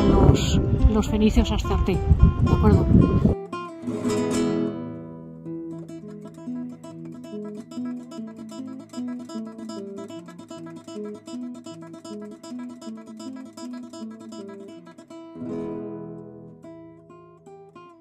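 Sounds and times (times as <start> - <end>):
acoustic guitar plucked melody: 0.0 - 18.0.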